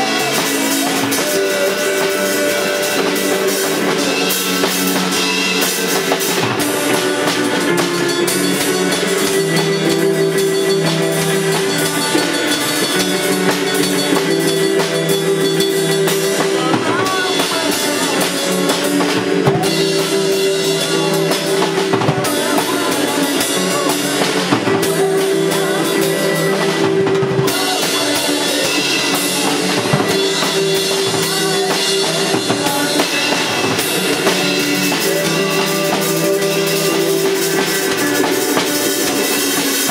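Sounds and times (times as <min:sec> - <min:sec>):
drum kit beat: 0:00.0 - 0:39.9
guitar and bass chords: 0:00.0 - 0:39.9.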